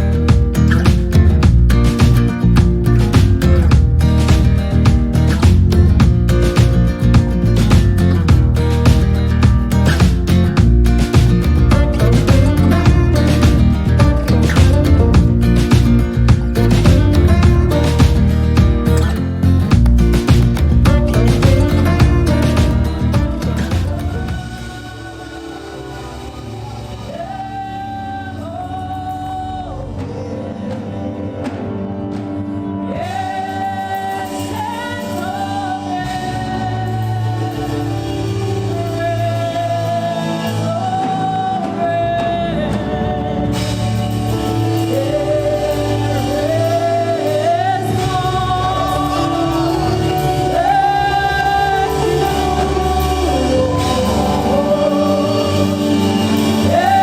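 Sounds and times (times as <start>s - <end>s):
gospel singing with accompaniment: 0.0s - 57.0s.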